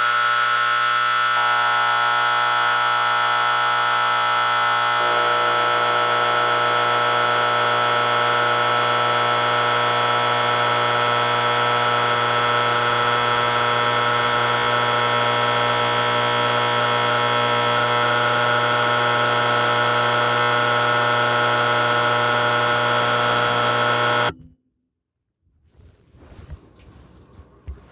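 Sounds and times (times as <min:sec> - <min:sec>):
fire alarm horn buzzing: 0:00.0 - 0:24.5.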